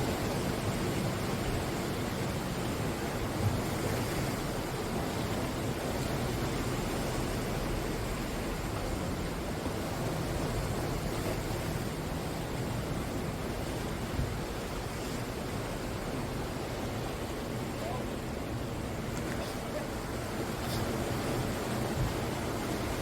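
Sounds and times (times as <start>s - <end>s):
sea surf washing onto shore: 0.0s - 23.0s.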